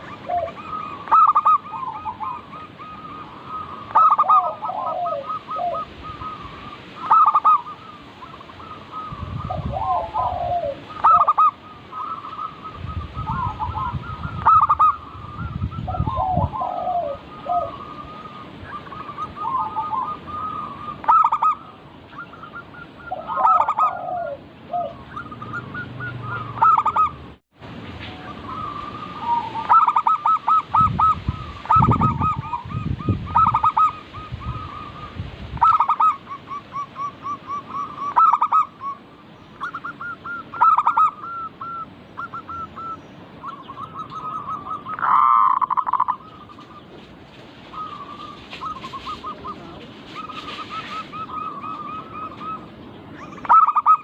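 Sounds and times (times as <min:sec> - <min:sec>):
doves cooing: 0:00.0 - 0:27.4, 0:28.2 - 0:54.0.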